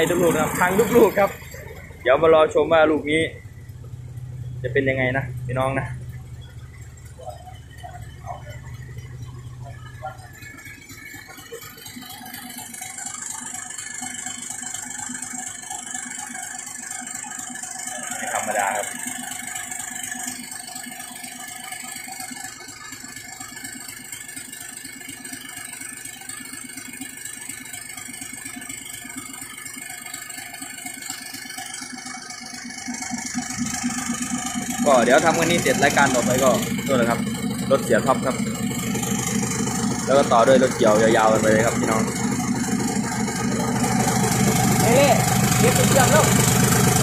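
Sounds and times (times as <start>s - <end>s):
engine idling with rattle: 0.0s - 47.0s.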